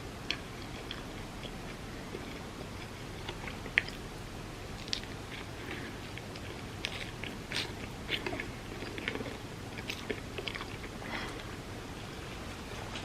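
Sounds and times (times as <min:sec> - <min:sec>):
person chewing crunchy food: 0:00.1 - 0:11.7.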